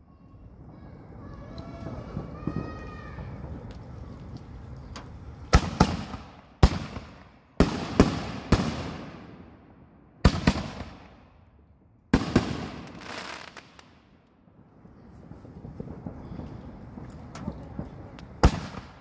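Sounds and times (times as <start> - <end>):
fireworks crackle: 0.1 - 9.5, 12.1 - 19.0
fireworks bangs: 0.6 - 11.4, 12.1 - 19.0.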